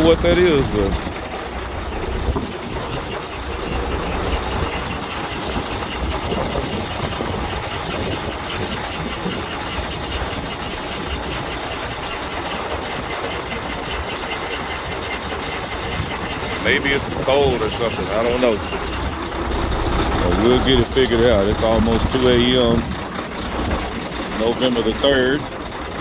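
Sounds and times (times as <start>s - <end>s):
diesel engine idling with a miss: 0.0s - 26.0s
fast steady engine tapping: 0.0s - 26.0s.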